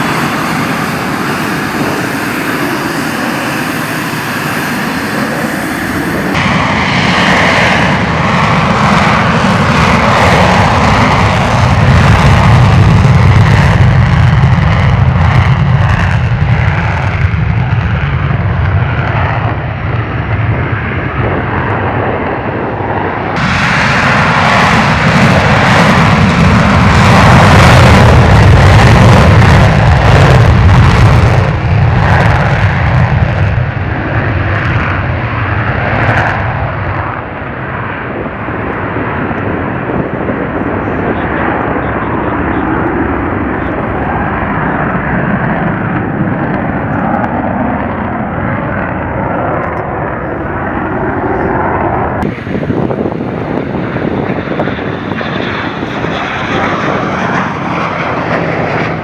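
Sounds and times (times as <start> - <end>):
jet engine roar on takeoff: 0.0 - 59.0.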